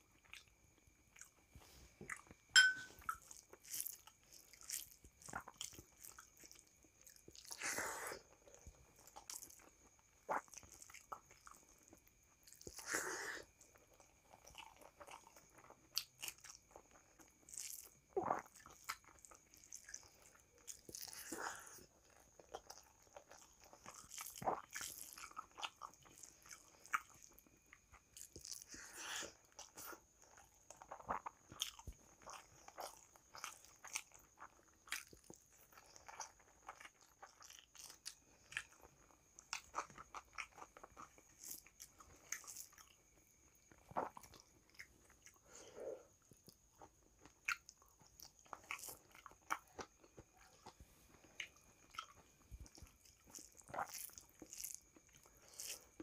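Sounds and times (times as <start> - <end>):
person chewing and smacking: 0.1 - 45.6, 46.2 - 56.0.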